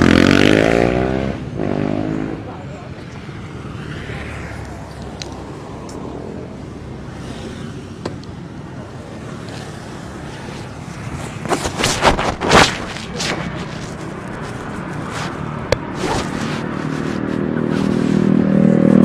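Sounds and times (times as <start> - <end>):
vehicle engine: 0.0 - 19.0.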